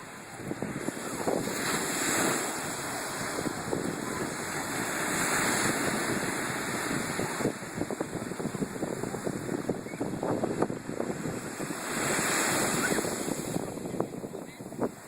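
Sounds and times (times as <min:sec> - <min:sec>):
ocean surf washing on beach: 0:00.0 - 0:15.0
wind buffeting microphone: 0:00.0 - 0:15.0.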